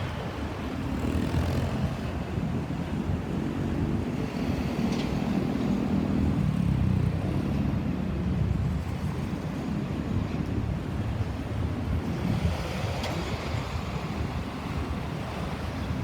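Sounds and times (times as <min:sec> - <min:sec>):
rumble of road vehicles: 0:00.0 - 0:16.0.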